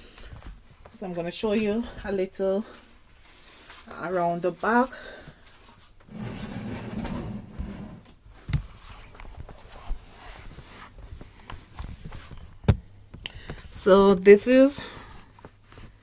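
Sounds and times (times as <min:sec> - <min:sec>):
rustling and shuffling: 0:00.0 - 0:16.0.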